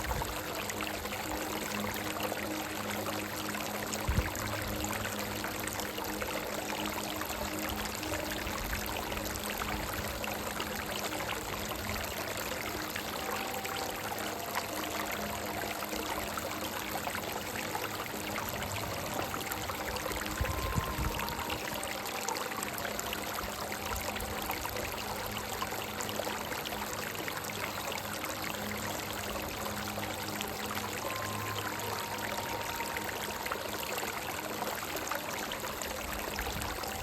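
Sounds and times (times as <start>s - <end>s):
rocky stream running: 0.0s - 37.0s
soft slow melody: 0.0s - 37.0s.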